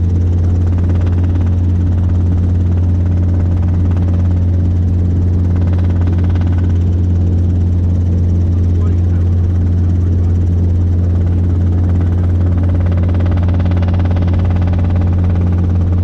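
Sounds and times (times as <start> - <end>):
helicopter engine and rotors droning: 0.0 - 16.0.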